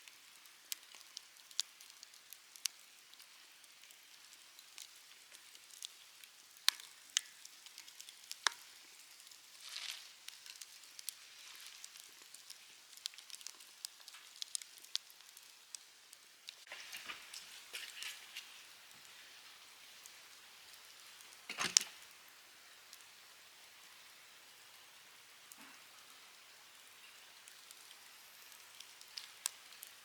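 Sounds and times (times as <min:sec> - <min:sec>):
campfire crackling and popping: 0:00.0 - 0:30.0
fire hissing: 0:00.1 - 0:30.0.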